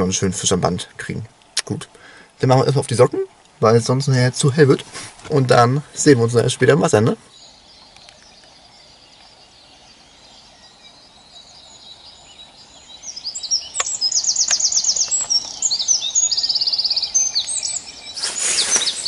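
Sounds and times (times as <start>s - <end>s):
songbirds trilling and chirping: 0.0s - 19.0s.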